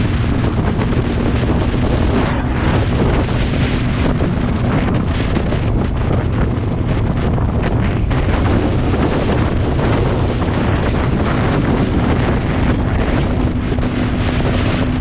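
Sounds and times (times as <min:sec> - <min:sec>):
low engine hum: 0:00.0 - 0:15.0
wind rushing over microphone: 0:00.0 - 0:15.0.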